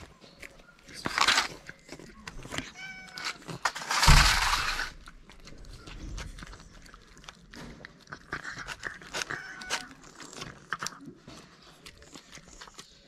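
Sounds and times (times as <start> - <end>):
cats chewing wet food: 0.0 - 13.0.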